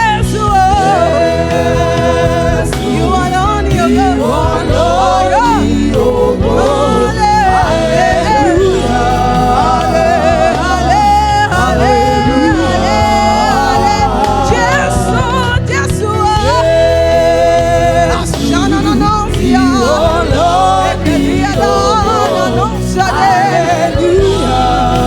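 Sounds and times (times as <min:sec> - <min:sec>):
band with steady bass: 0:00.0 - 0:25.0
singers holding long notes: 0:00.0 - 0:25.0.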